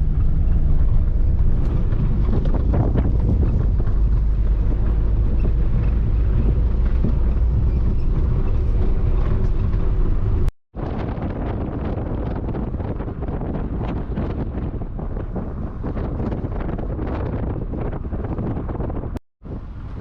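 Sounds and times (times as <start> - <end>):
vehicle engine and road rumble: 0.0 - 20.0
wind buffeting microphone: 0.0 - 20.0.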